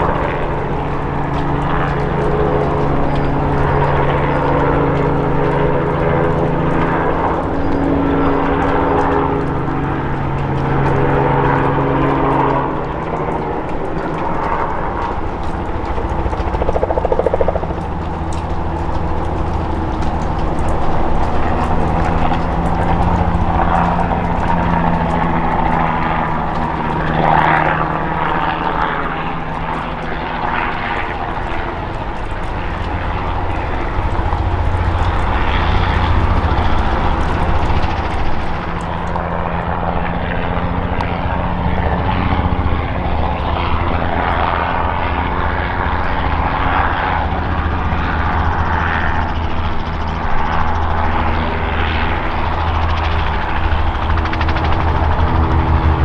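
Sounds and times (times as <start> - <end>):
helicopter engine and rotors drone: 0.0 - 56.0.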